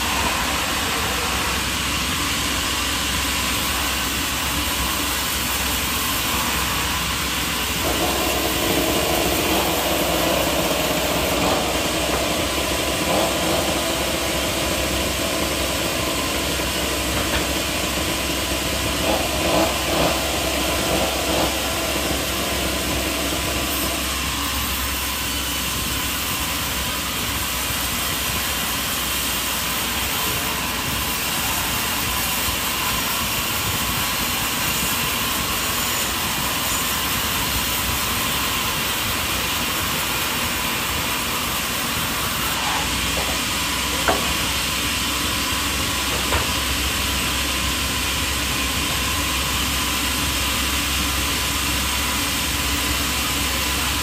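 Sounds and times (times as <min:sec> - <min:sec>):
engine-driven machine running: 0:00.0 - 0:54.0.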